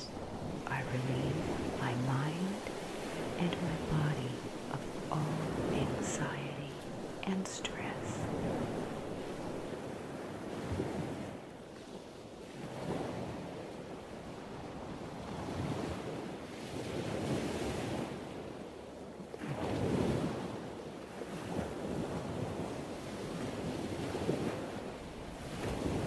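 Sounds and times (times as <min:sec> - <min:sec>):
waves breaking and washing up: 0:00.0 - 0:26.0.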